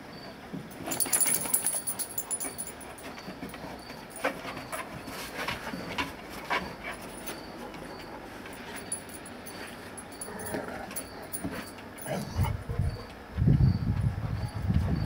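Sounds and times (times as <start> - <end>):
dogs play-fighting: 0.6 - 13.3.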